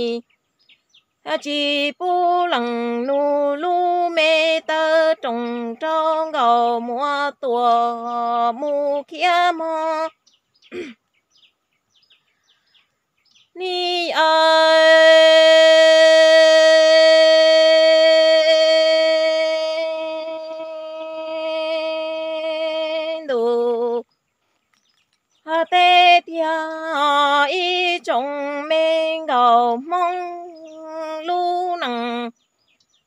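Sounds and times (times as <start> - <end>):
woman singing unaccompanied: 0.0 - 0.3, 1.2 - 10.3, 13.4 - 24.2, 25.4 - 32.9.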